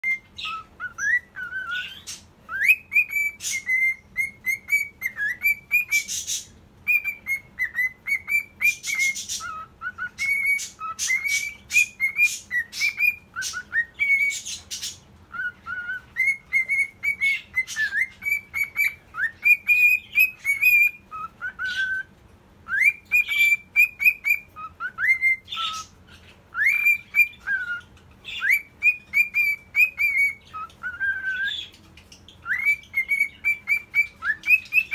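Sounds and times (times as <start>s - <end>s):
cockatiel whistling: 0.0s - 34.9s.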